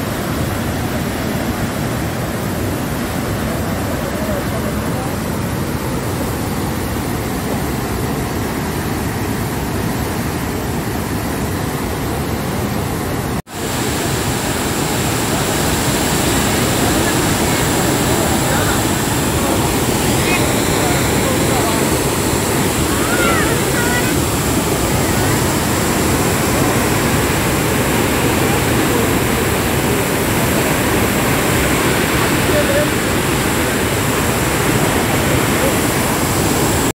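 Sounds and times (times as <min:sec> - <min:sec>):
floodwater roaring: 0:00.0 - 0:36.9
water churning in rapids: 0:00.0 - 0:36.9.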